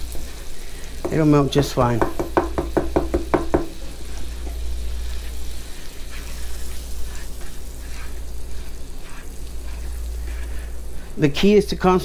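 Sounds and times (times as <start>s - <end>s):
butter and sugar sizzling in pan: 0.0s - 12.0s
steady low hum: 0.0s - 12.0s
spatula scraping pan: 0.1s - 11.4s.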